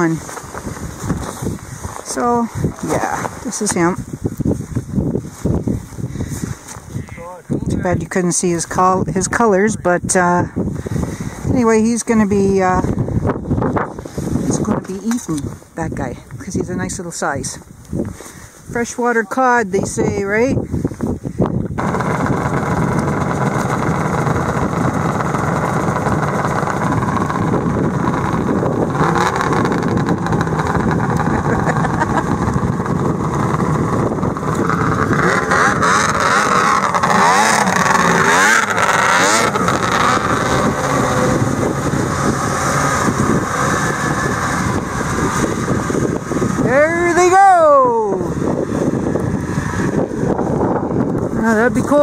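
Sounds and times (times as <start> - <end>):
snowmobile engines revving: 0.0 - 17.6, 18.7 - 20.7, 21.7 - 52.0.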